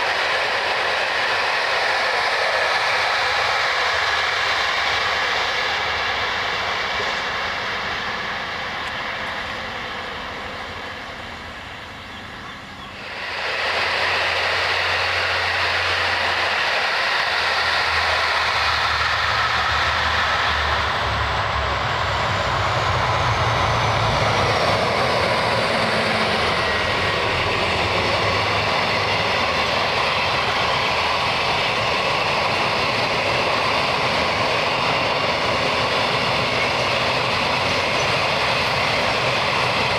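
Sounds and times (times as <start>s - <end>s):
train passing close by: 0.0s - 39.9s.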